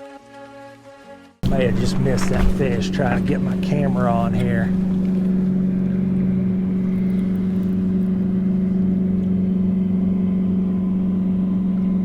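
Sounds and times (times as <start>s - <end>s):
electric motor humming: 1.4s - 12.0s.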